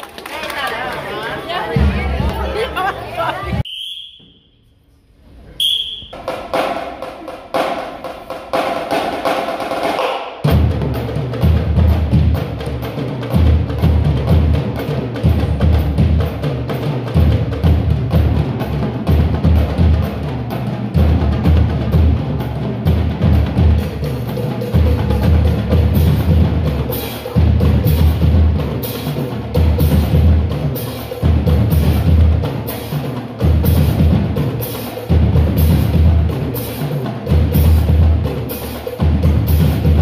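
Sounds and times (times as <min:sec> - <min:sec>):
marching bass drums cadence: 0:05.6 - 0:40.0.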